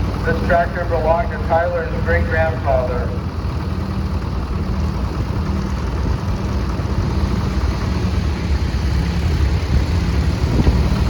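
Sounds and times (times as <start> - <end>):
tractor engines running: 0.0 - 11.0.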